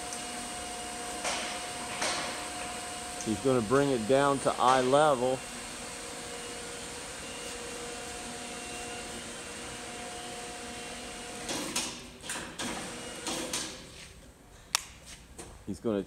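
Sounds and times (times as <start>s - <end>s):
electric hoist humming and whining: 0.0s - 14.0s.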